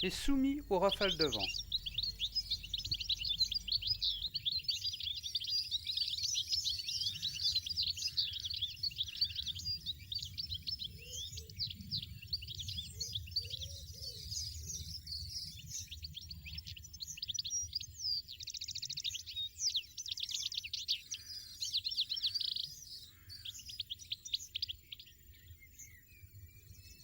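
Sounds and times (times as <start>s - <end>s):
songbirds twittering: 0.0s - 27.0s.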